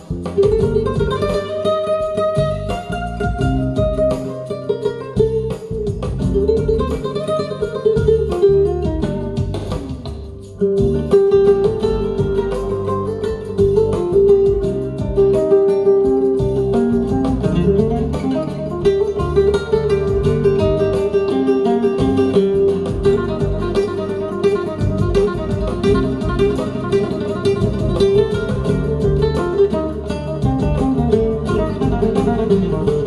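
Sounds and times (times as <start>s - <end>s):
flamenco acoustic guitar music: 0.0s - 33.0s.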